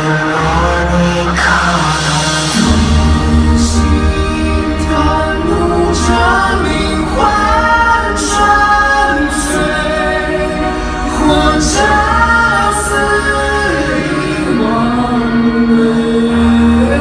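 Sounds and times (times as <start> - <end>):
band with heavy bass: 0.0 - 17.0.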